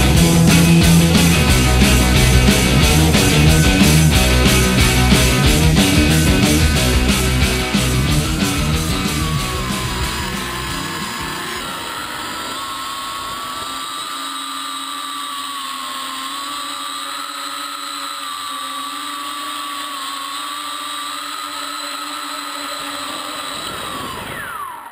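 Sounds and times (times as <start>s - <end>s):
drone motors whining: 0.0s - 24.9s.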